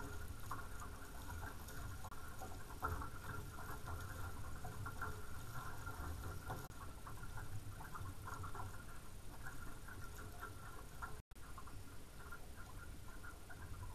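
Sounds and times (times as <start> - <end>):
water splashing against hulls: 0.0 - 13.9.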